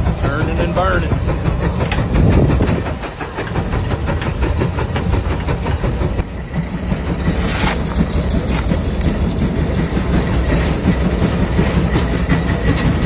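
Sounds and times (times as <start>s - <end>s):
steam traction engine running: 0.0s - 13.0s.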